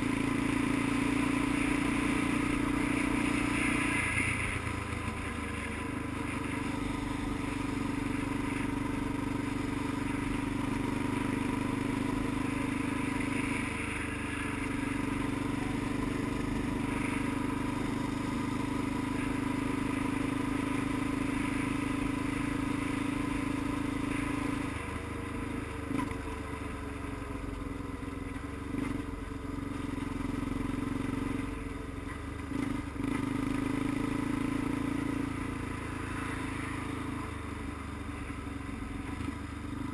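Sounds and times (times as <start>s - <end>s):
road noise: 0.0s - 39.9s
vehicle engine cruising: 0.0s - 39.9s.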